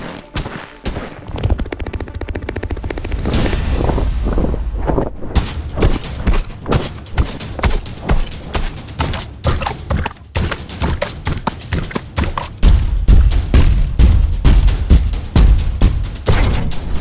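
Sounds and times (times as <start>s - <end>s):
heavy monster footsteps: 0.0s - 17.0s.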